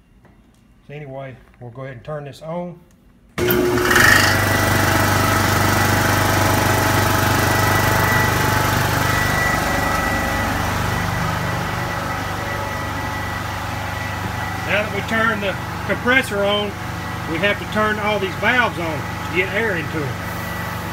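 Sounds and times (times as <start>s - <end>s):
air compressor humming and whining: 3.4s - 20.9s.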